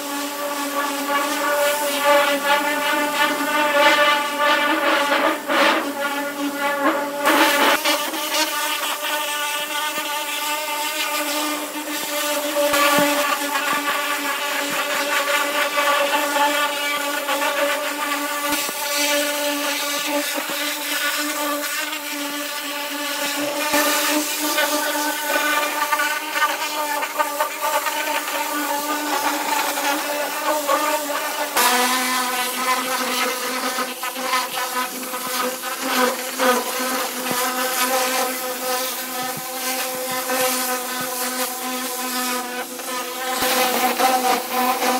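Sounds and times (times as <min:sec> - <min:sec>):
pressure washer humming: 0:00.0 - 0:44.9
water jet hissing on sheet metal: 0:00.0 - 0:44.9.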